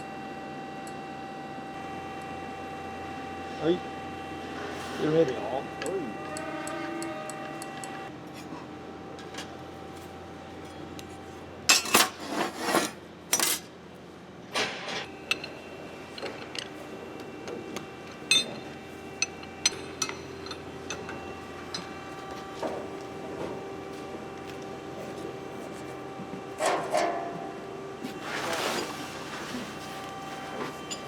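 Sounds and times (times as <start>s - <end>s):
steady machine hum: 0.0s - 11.8s, 12.9s - 31.0s.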